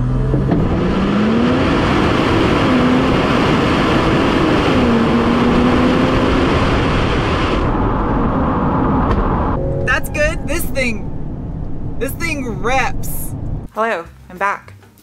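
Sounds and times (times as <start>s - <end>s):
engine roaring under acceleration: 0.0s - 9.8s, 10.4s - 13.7s.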